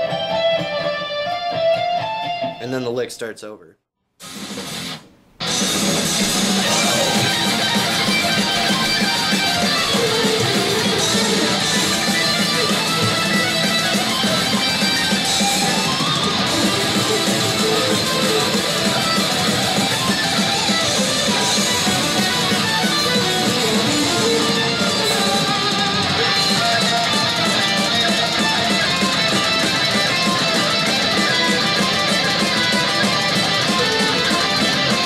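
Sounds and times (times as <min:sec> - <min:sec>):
electric guitar solo: 0:00.0 - 0:02.6, 0:06.3 - 0:35.0.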